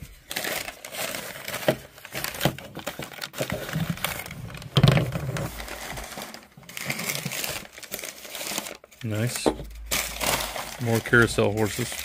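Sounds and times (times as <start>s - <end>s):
newspaper crinkling and rustling: 0.0s - 12.0s.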